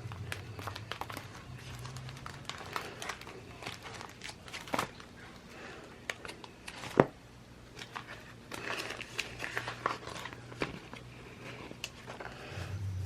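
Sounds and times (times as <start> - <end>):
paper crinkling and rustling: 0.0 - 12.6.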